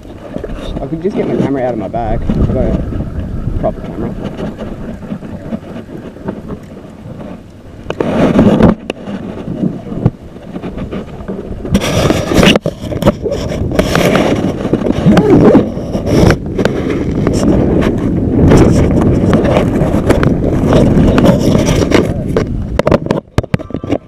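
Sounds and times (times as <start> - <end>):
hand rubbing camera: 0.0 - 24.0
wind rumbling on microphone: 0.0 - 24.0
loud rustle: 3.6 - 24.0.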